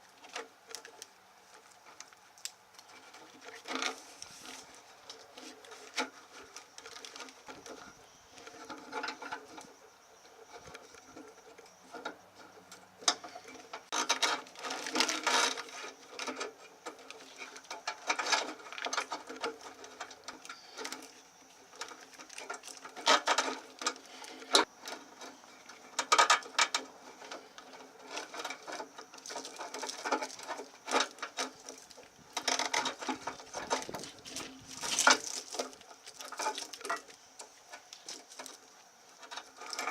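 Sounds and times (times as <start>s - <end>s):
wiring harness rustling and rattling: 0.0s - 9.8s, 10.4s - 39.9s.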